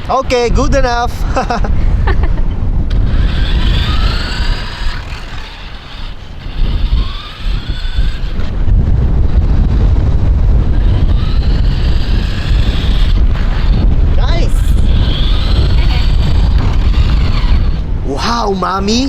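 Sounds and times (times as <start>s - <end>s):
heavy low rumble: 0.3s - 19.0s
electric motor whining: 1.4s - 19.0s.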